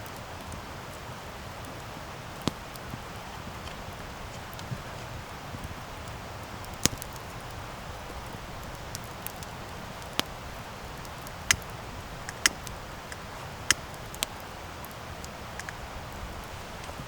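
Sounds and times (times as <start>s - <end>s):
burning wood popping and snapping: 0.0s - 17.0s
campfire crackling and hissing: 0.0s - 17.0s.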